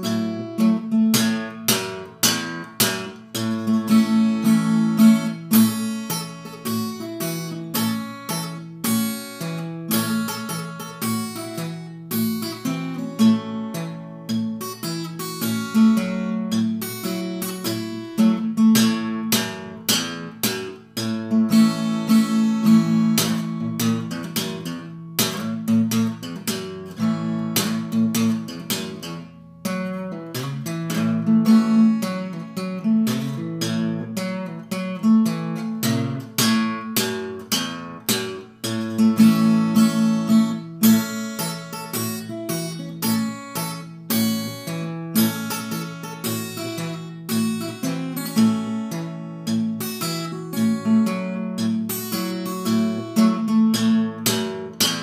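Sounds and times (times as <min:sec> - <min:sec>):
fingerpicked acoustic guitar: 0:00.0 - 0:55.0.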